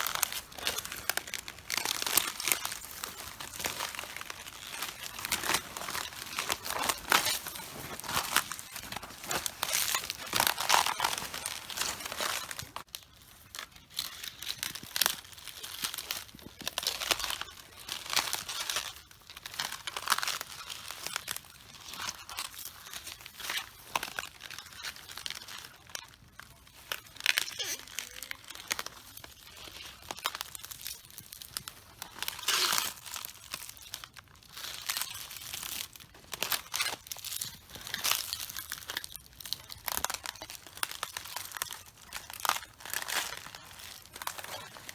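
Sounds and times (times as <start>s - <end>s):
cabbages crunching underfoot: 0.0s - 44.9s.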